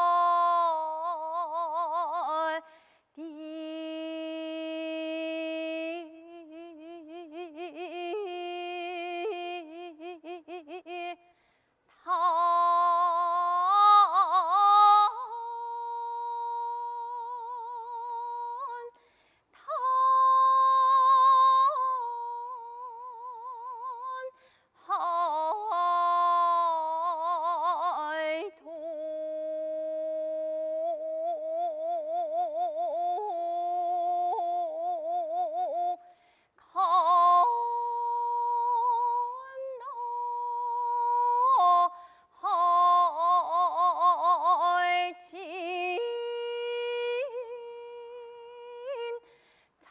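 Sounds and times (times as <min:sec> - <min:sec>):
woman singing: 0:00.0 - 0:49.9.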